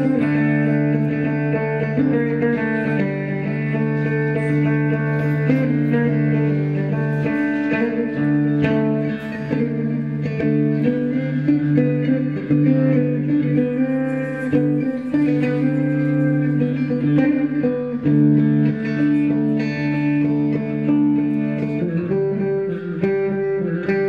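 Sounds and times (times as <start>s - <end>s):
held instrument tones: 0.0s - 24.0s
plucked guitar notes: 0.0s - 24.0s.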